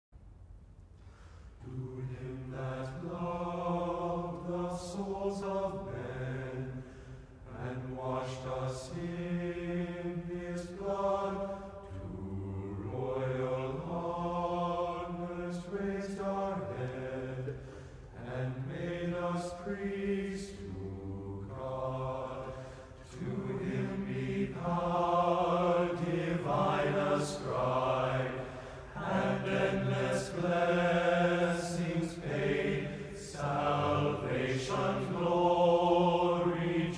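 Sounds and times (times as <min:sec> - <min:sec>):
men's choir singing unaccompanied: 0:01.6 - 0:36.9.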